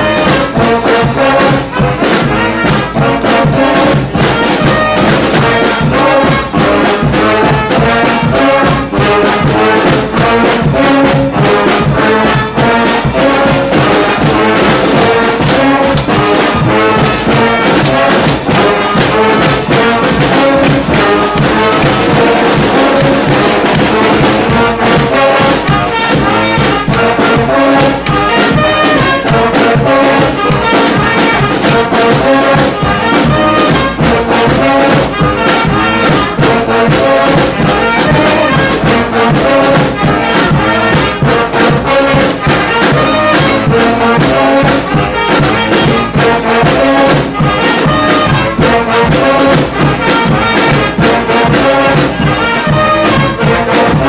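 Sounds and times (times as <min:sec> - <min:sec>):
brass band horns: 0:00.0 - 0:54.0
steady drum beat: 0:00.0 - 0:54.0.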